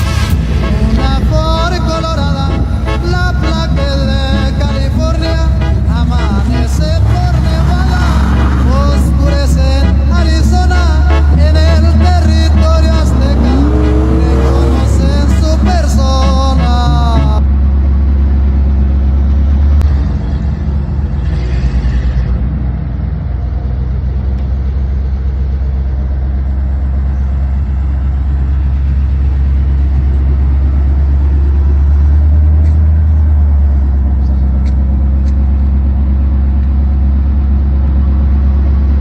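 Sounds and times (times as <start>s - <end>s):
truck engine rumbling: 0.0s - 39.0s.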